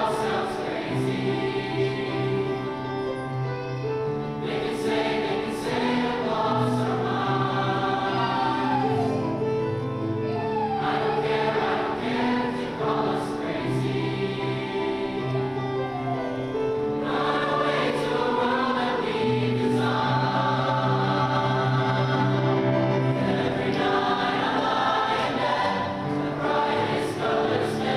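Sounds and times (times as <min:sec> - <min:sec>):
choir singing in harmony: 0:00.0 - 0:27.9.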